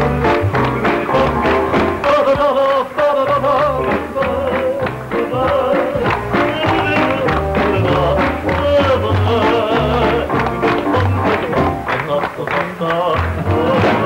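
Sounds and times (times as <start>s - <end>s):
audience clapping in rhythm: 0.0s - 14.0s
piano: 0.0s - 14.0s.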